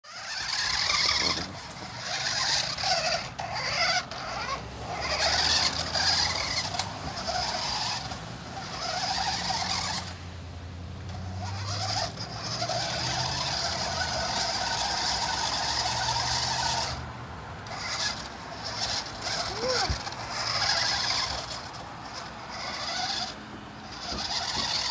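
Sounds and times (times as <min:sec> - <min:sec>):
toy car electric motor whining: 0:00.0 - 0:10.3, 0:10.9 - 0:24.9.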